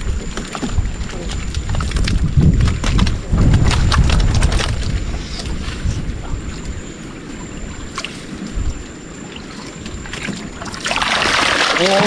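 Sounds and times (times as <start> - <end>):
water sloshing and splashing: 0.0 - 12.0
wind rumbling on microphone: 0.0 - 12.0.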